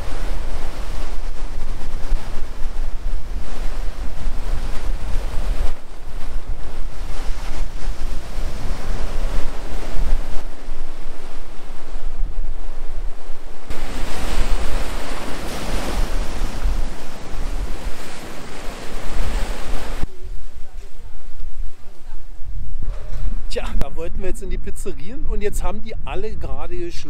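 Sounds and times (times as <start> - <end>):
waves breaking on shore: 0.0 - 27.0
wind buffeting microphone: 0.0 - 27.0.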